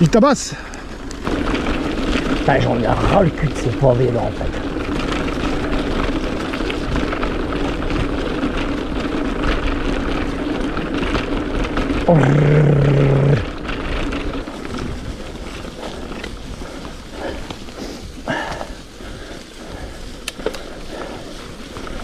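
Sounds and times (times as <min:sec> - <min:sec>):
bike rattling over cobblestones: 0:00.0 - 0:22.0.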